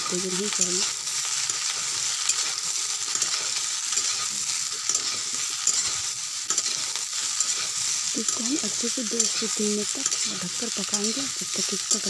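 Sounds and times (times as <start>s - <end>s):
vegetables sizzling in oil: 0.0s - 12.0s
metal spatula scraping pan: 1.5s - 11.2s.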